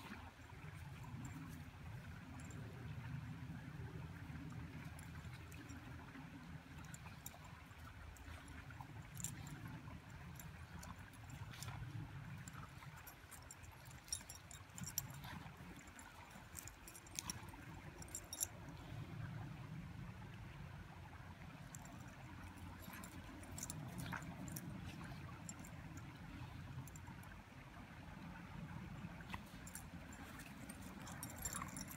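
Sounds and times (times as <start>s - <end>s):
low steady rumble: 0.0s - 31.9s.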